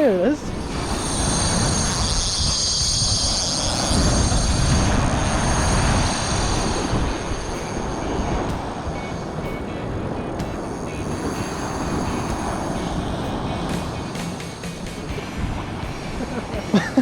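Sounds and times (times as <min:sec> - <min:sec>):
surf: 0:00.0 - 0:17.0
wind: 0:00.0 - 0:17.0
fishing reel drag whining: 0:00.1 - 0:16.1.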